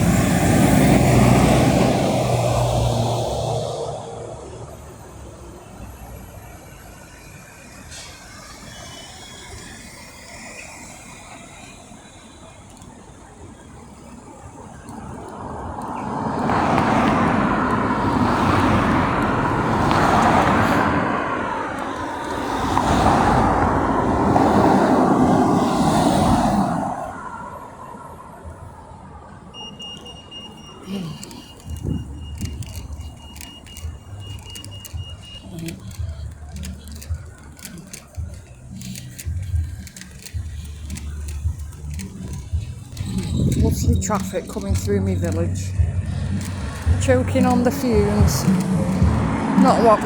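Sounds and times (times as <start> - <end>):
traffic rumble: 0.0 - 50.0
vehicles passing close by: 0.0 - 50.0.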